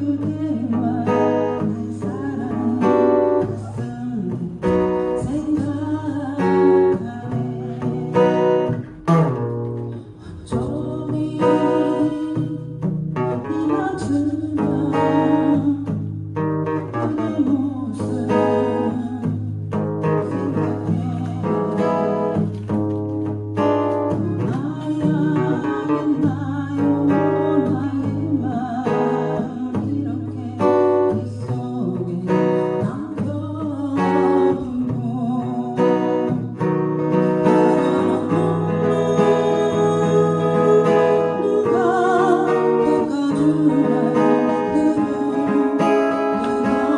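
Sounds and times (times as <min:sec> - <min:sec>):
acoustic guitar strumming: 0:00.0 - 0:46.9
person singing: 0:00.0 - 0:46.9.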